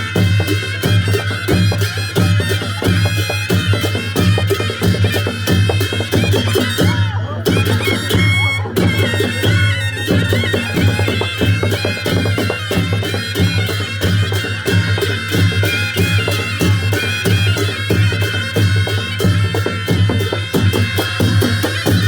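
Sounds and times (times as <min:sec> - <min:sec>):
reedy shehnai melody: 0:00.0 - 0:22.0
steady drum beat: 0:00.0 - 0:22.0.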